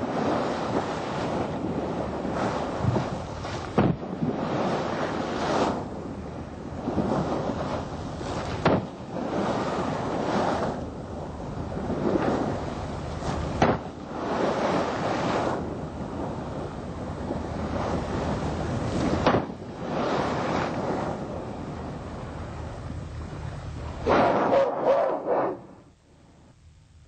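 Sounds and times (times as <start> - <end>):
sea water surging and splashing: 0.0 - 25.4
wind buffeting microphone: 0.0 - 25.8.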